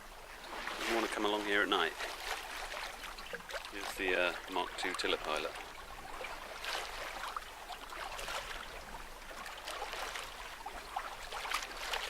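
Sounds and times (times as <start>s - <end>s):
water splashing along a hull: 0.0s - 12.0s.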